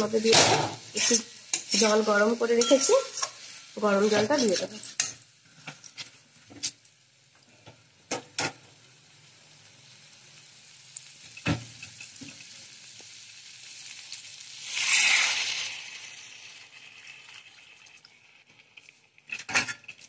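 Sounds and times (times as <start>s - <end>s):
vegetables sizzling in oil: 0.0s - 20.0s
water sizzling in hot pan: 0.0s - 20.0s.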